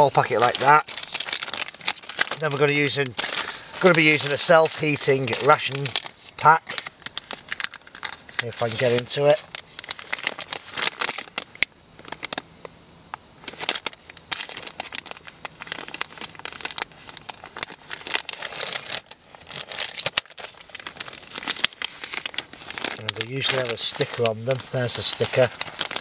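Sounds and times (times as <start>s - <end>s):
packaging crinkling and crackling: 0.0s - 12.4s, 13.4s - 26.0s.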